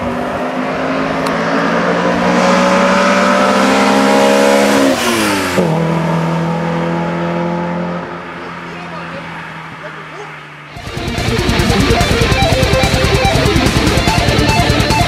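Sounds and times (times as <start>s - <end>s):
rally car engine pulling hard: 0.0s - 15.0s.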